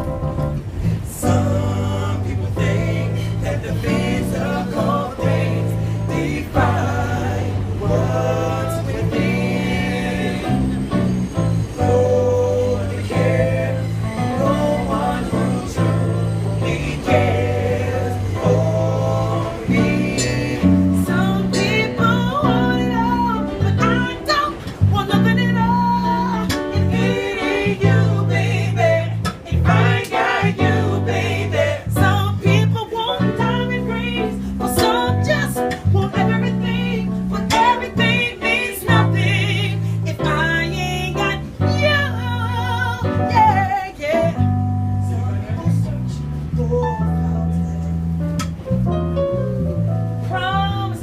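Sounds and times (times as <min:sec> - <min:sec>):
bass line: 0:00.0 - 0:51.0.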